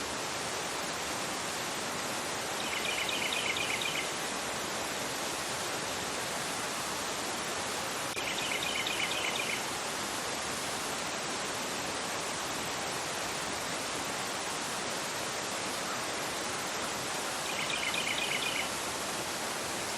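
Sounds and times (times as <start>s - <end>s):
river rushing over rocks: 0.0s - 19.9s.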